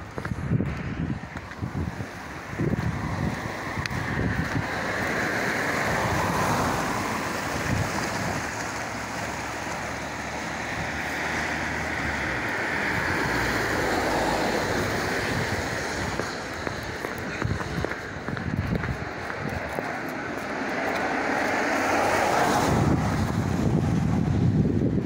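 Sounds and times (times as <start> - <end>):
floodwater rushing: 0.0 - 24.6
wind buffeting microphone: 0.0 - 25.0.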